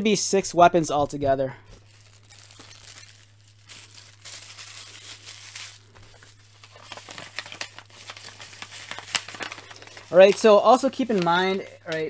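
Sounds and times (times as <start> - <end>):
packaging crinkling and rustling: 1.7 - 12.0.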